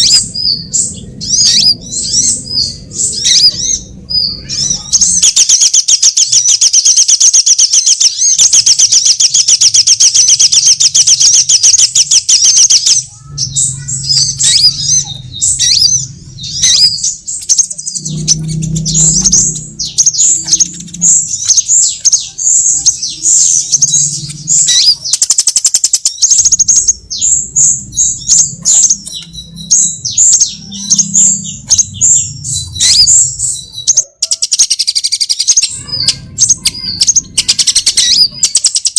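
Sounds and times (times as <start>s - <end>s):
sunbird trilling and chirping: 0.0s - 38.9s.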